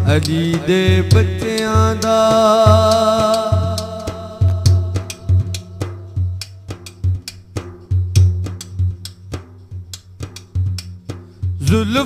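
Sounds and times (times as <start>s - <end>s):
steady drum rhythm: 0.0s - 12.0s.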